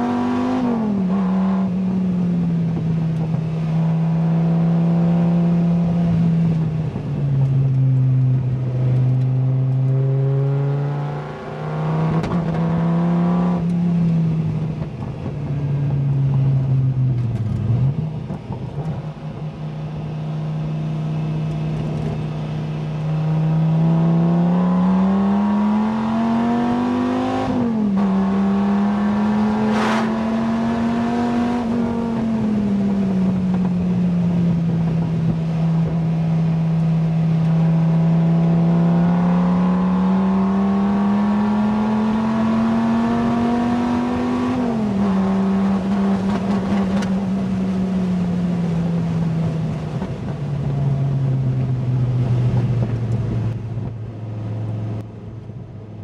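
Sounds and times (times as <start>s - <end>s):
sports car engine revving: 0.0s - 55.0s.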